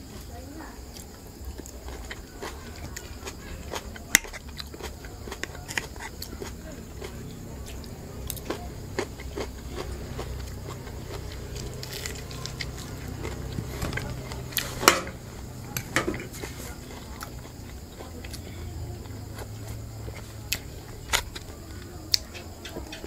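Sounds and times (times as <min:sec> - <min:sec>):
person chewing food: 0:00.8 - 0:23.0.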